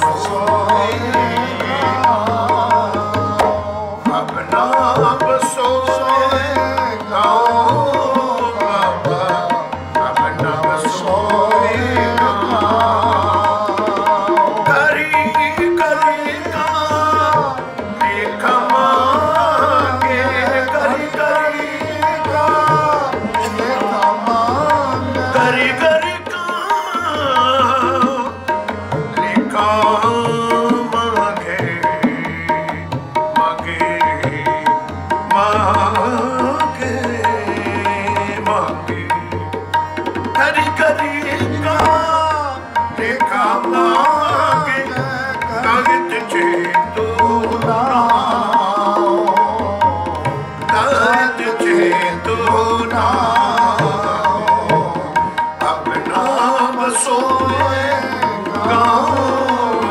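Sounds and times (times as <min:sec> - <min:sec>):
harmonium chords: 0:00.0 - 0:59.9
men singing: 0:00.0 - 0:59.9
tabla playing: 0:00.0 - 0:59.9.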